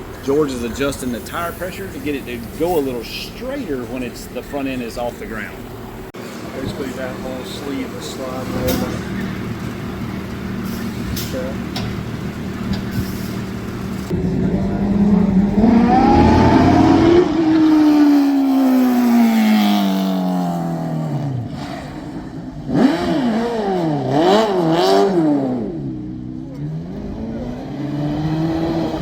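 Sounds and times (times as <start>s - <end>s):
truck engine accelerating and revving: 0.0s - 29.0s.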